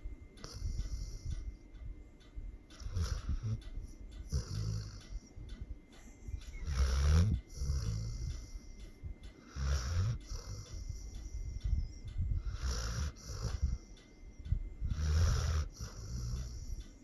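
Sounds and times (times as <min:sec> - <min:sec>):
dog snoring: 0:00.0 - 0:01.7, 0:02.6 - 0:17.0.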